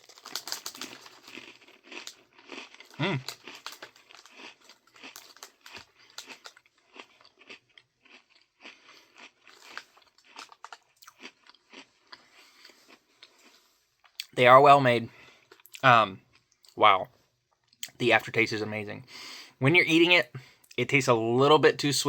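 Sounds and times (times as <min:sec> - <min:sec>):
crunching and chewing cookie: 0:00.0 - 0:18.0.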